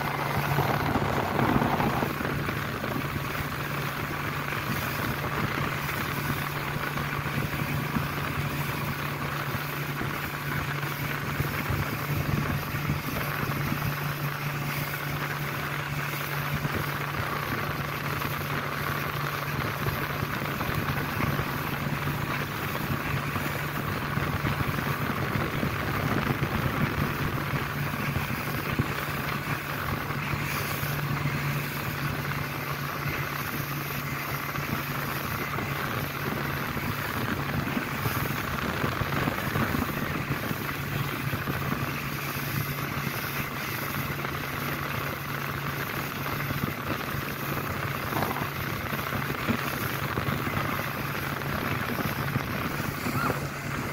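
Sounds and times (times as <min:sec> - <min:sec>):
outboard motor running: 0:00.0 - 0:53.9
water rushing along hull: 0:00.0 - 0:53.9.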